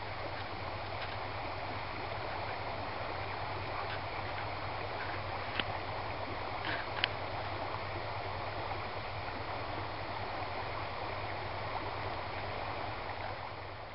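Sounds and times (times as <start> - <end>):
stream water rippling: 0.0 - 13.9.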